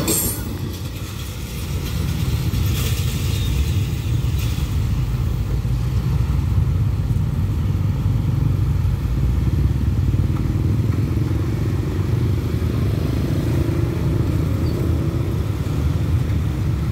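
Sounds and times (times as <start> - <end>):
motorcycle sidecar taxi passing: 0.0 - 16.9.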